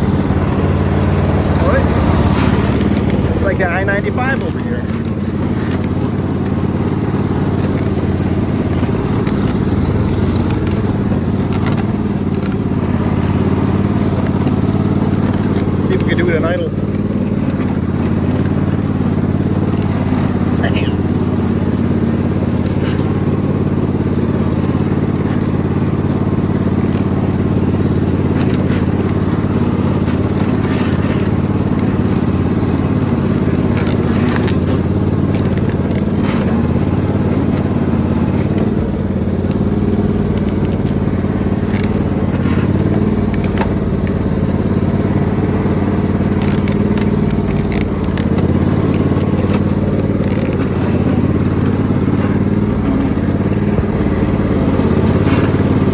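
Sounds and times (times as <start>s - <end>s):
riding lawn mower engine: 0.0s - 55.9s
sharp cracks and clatter: 0.0s - 55.9s.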